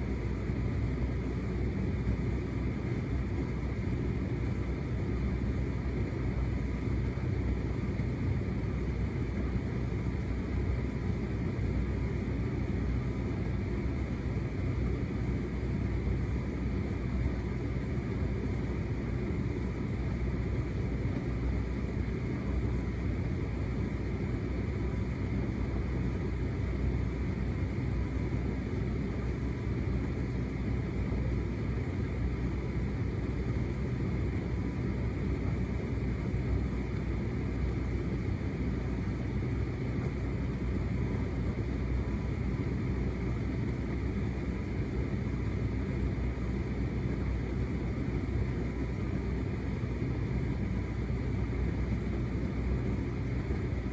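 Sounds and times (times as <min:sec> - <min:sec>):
tumble dryer running: 0:00.0 - 0:53.9.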